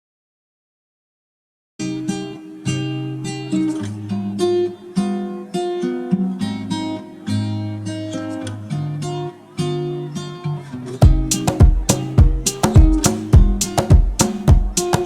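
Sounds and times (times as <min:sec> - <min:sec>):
strummed acoustic guitar: 0:01.8 - 0:15.0.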